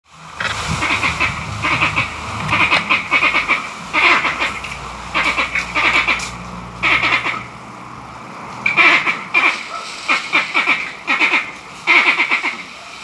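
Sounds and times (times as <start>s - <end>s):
monkeys giving harsh pulsing calls: 0.4s - 7.5s, 8.7s - 13.0s.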